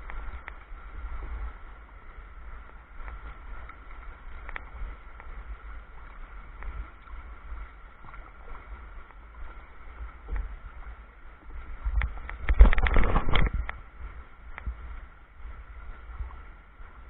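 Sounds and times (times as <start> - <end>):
low wind rumble on microphone: 0.0 - 17.0
water lapping against hull: 0.0 - 17.0.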